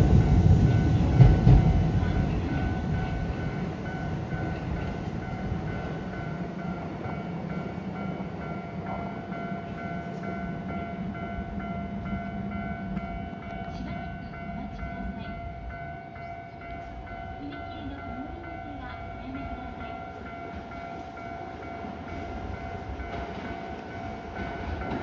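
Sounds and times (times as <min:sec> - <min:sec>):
electric train rumbling: 0:00.0 - 0:25.0
level crossing warning bell: 0:00.0 - 0:25.0.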